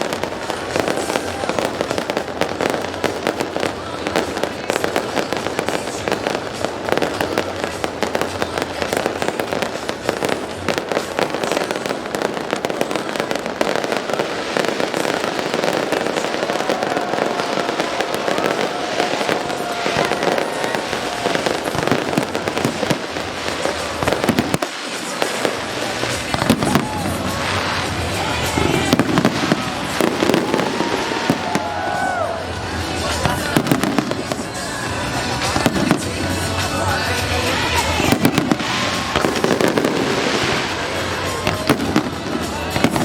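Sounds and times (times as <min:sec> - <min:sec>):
fireworks bangs and crackling: 0:00.0 - 0:43.0
music playing: 0:00.0 - 0:43.0.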